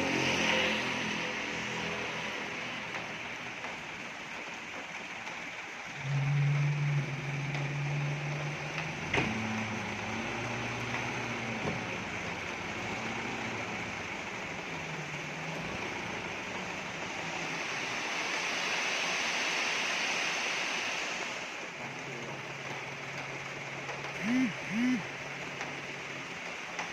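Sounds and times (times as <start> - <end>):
dump truck engine running: 0.0 - 18.0, 21.7 - 26.0
rain hissing: 0.0 - 26.9.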